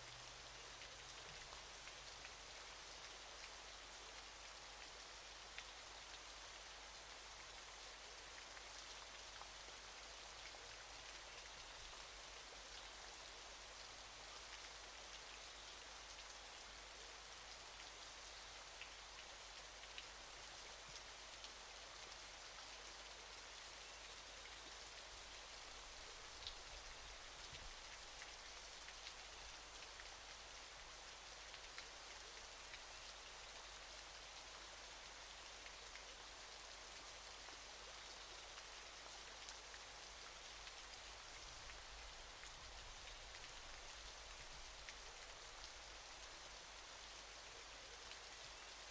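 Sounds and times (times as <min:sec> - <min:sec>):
small drip-like ticks: 0:00.0 - 0:48.9.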